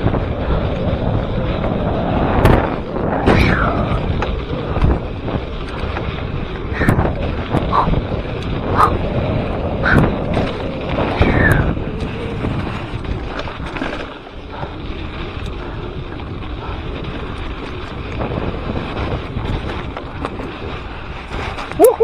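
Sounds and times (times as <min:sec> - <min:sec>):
bike clicks and rattles: 0:00.0 - 0:22.0
tyres rolling on dirt trail: 0:00.0 - 0:22.0
wind buffeting microphone: 0:00.0 - 0:22.0.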